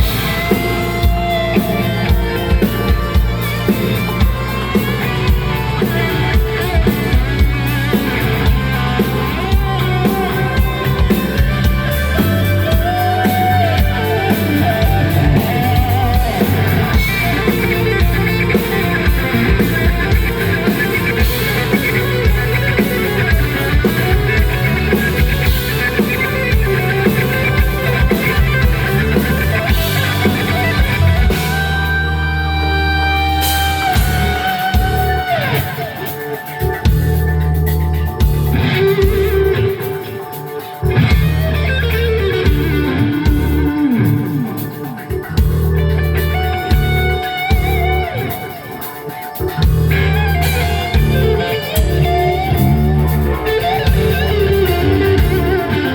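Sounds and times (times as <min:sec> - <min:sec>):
drum kit: 0:00.0 - 0:55.9
electric guitar: 0:00.0 - 0:55.9.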